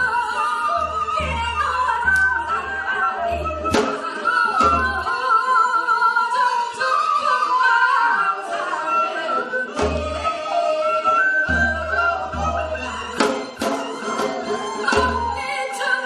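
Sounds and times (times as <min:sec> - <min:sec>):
women singing with vibrato: 0:00.0 - 0:16.0.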